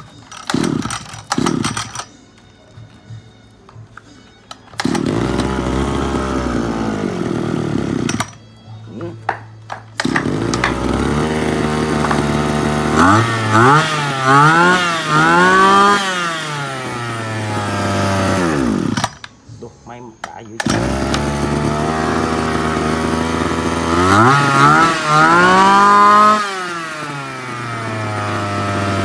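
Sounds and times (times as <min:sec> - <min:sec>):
brush cutter engine revving: 0:00.0 - 0:02.1, 0:04.7 - 0:08.4, 0:10.0 - 0:19.3, 0:20.2 - 0:29.0.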